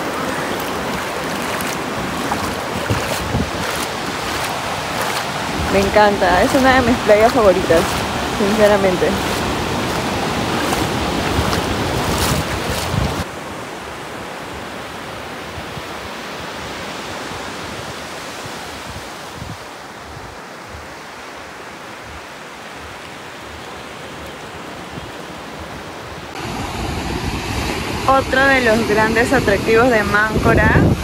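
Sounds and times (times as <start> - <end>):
ocean surf washing on beach: 0.0 - 31.0.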